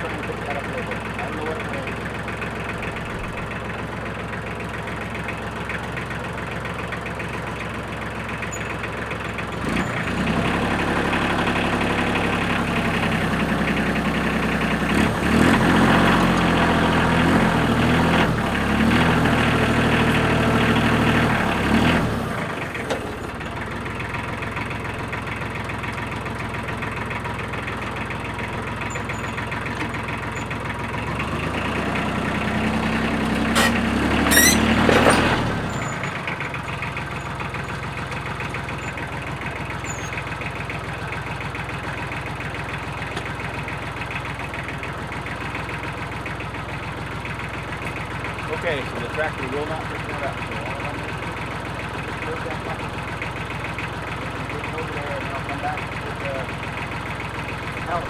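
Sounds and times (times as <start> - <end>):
tractor engine idling and revving: 0.0 - 58.0.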